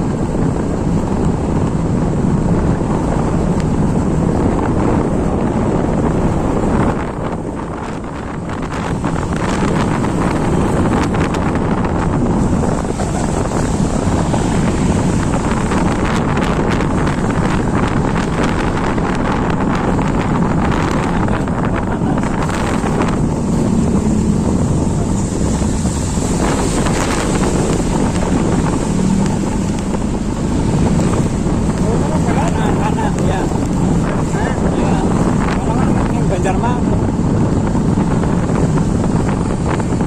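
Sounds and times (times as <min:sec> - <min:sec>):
heavy rain pouring: 0:00.0 - 0:40.0
wind noise on microphone: 0:00.0 - 0:40.0.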